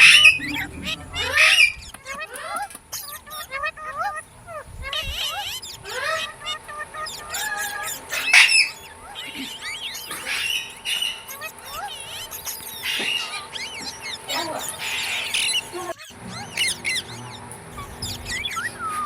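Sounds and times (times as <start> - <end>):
parrot chirping and squawking: 0.0 - 19.0.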